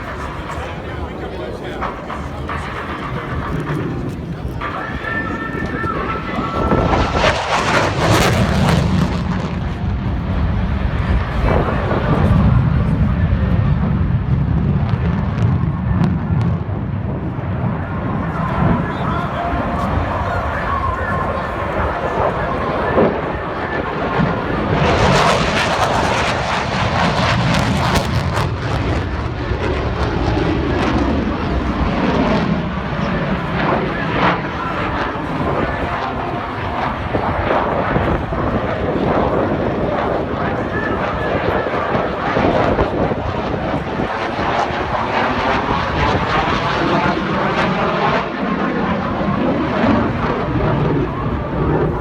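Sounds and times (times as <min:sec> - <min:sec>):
airplane engine noise: 0:00.0 - 0:52.0.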